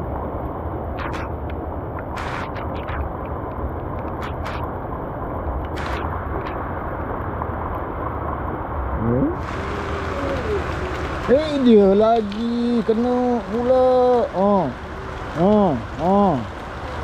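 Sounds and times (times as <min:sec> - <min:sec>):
open water rushing ambience: 0:00.0 - 0:17.0.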